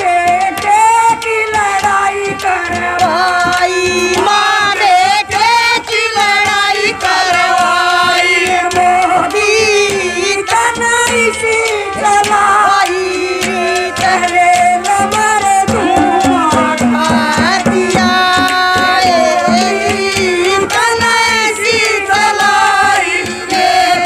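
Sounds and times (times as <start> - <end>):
hand-drum beat: 0.0 - 24.0
woman singing through microphone: 0.0 - 24.0.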